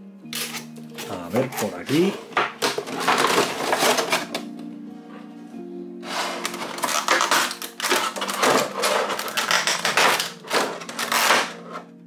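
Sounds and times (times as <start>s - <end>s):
plastic packaging crinkling: 0.4s - 4.5s, 6.2s - 11.7s.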